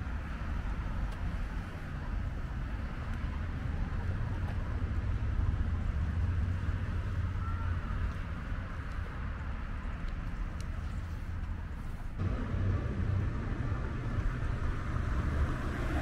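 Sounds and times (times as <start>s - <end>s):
street low rumble: 0.0s - 16.0s.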